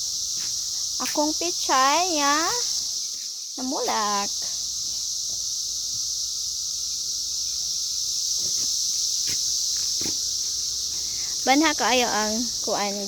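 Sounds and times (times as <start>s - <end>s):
cicadas chorus: 0.0s - 13.0s.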